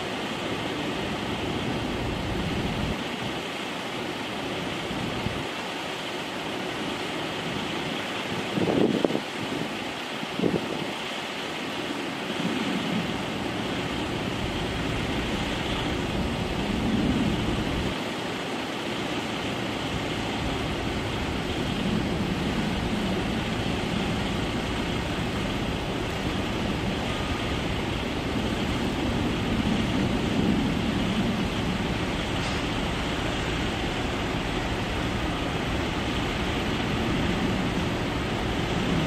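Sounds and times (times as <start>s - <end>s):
jet airliner engines humming: 0.0s - 39.0s.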